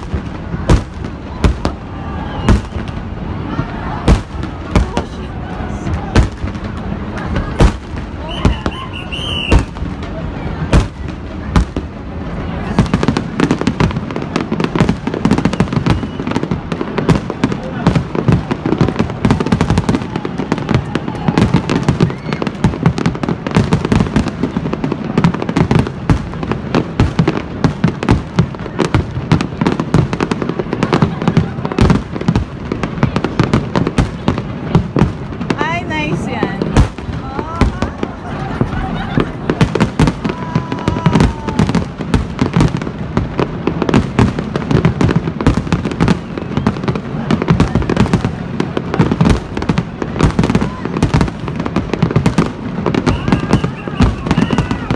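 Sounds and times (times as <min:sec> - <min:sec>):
fireworks booming and crackling: 0:00.0 - 0:54.9.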